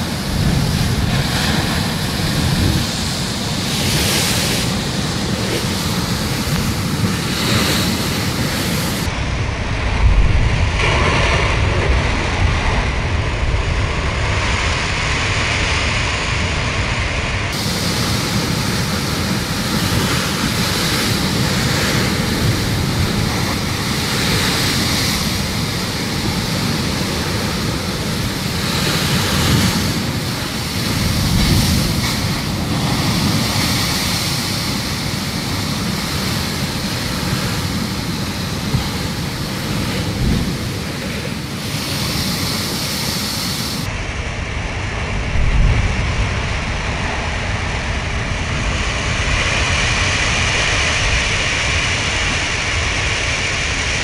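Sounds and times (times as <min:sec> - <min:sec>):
storm surf crashing on rocks: 0:00.0 - 0:54.0.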